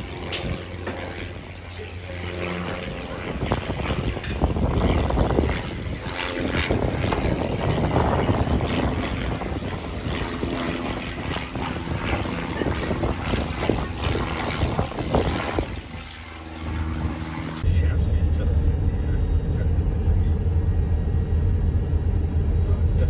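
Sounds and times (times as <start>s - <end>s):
propeller aeroplane engine droning: 0.0s - 23.0s.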